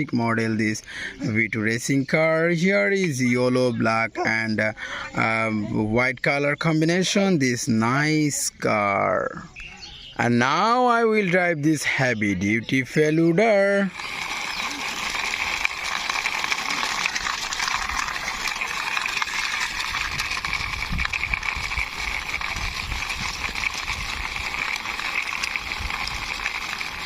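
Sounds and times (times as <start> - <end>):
toy truck wheels rolling: 0.0 - 5.5, 10.3 - 27.0.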